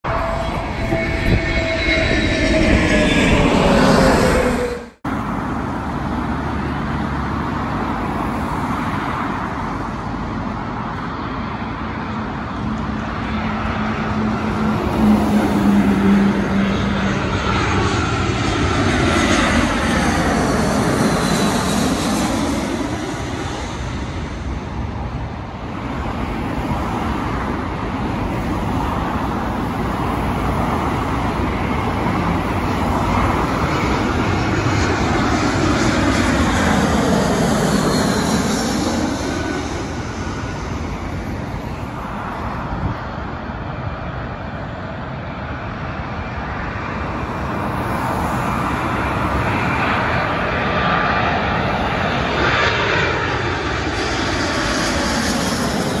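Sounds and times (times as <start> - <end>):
jet engine rumble and whine: 0.0 - 56.0
road traffic hum: 0.0 - 56.0.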